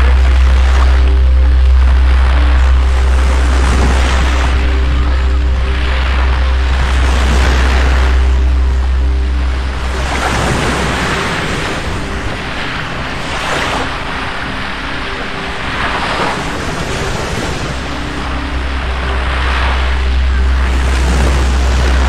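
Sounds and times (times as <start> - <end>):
low rumble of sea: 0.0 - 22.0.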